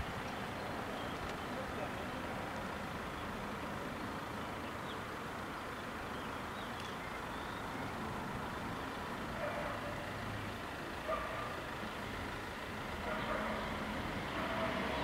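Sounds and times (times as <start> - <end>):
town street background noise: 0.0 - 15.0.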